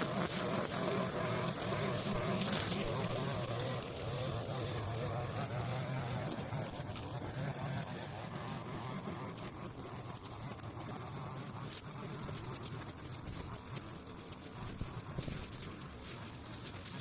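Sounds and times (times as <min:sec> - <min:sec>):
small petrol engine buzzing: 0:00.0 - 0:17.0.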